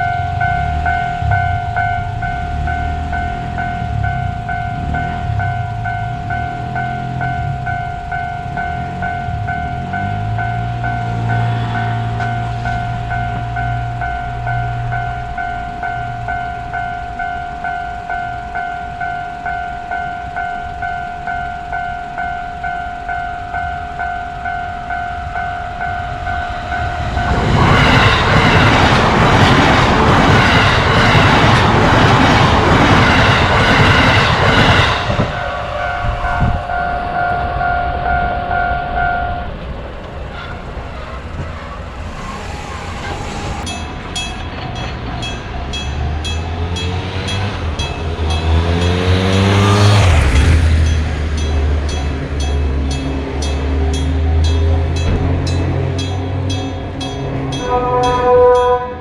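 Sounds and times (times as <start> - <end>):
railroad crossing bell: 0.0 - 59.0
train passing: 0.0 - 59.0.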